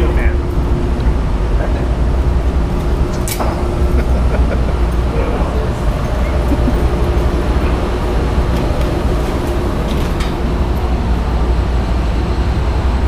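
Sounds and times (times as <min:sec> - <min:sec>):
laundry machinery rumbling: 0:00.0 - 0:13.0.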